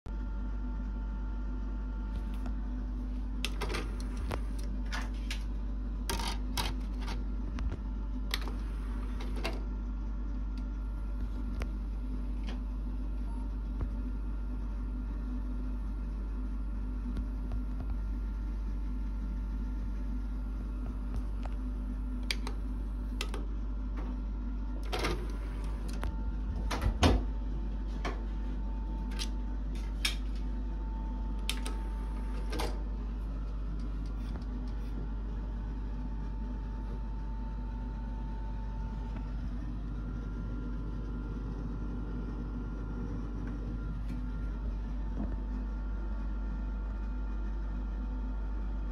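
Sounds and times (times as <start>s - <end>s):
steady low hum: 0.1s - 48.9s.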